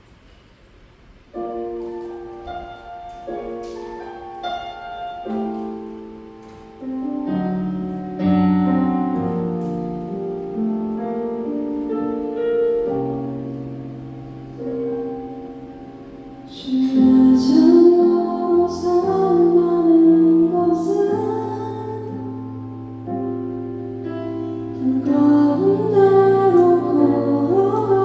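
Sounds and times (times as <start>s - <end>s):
keyboard playing slow chords: 1.4s - 28.0s.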